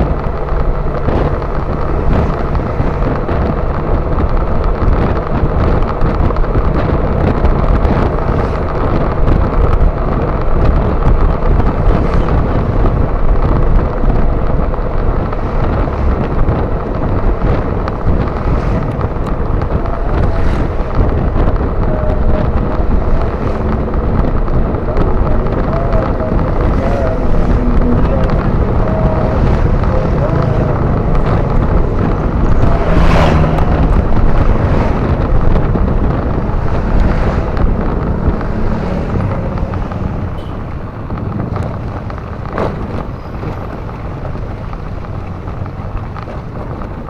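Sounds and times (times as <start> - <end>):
motorcycle engine: 0.0 - 47.0
road noise: 0.0 - 47.0
wind buffeting microphone: 0.0 - 47.0.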